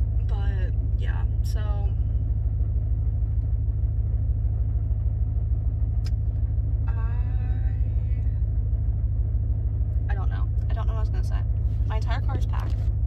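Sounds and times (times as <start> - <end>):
car exhaust rumbling: 0.0 - 13.0.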